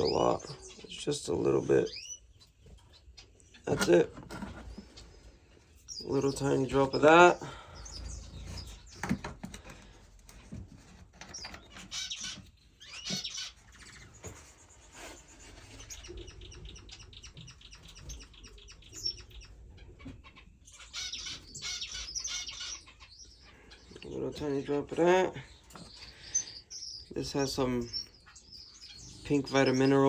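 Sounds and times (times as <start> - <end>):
finches chirping: 0.0 - 30.0.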